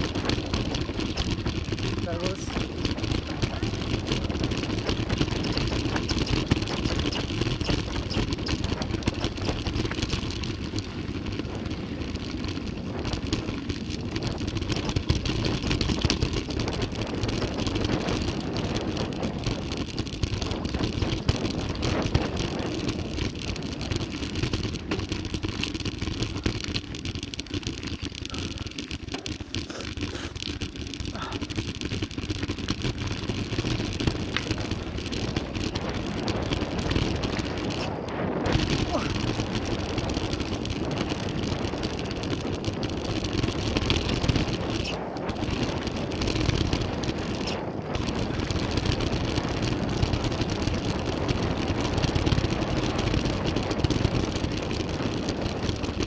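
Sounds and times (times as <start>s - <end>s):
bike clattering over ground: 0.0s - 56.0s
wind noise on microphone: 0.0s - 56.0s.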